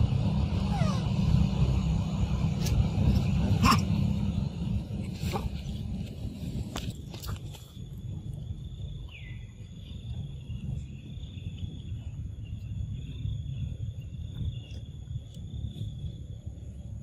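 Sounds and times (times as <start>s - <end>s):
insects droning: 0.0s - 17.0s
low rumble: 0.0s - 17.0s.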